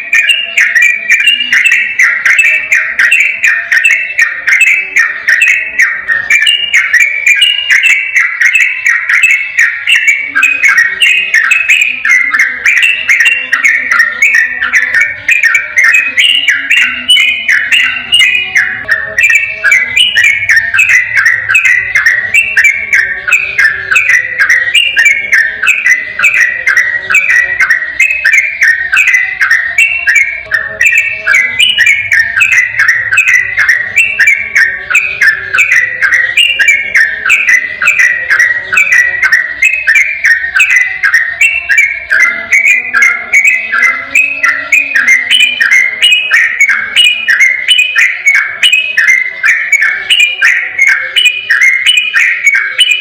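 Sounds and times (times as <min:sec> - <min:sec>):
bulbul singing chirping song: 0:00.0 - 0:53.0.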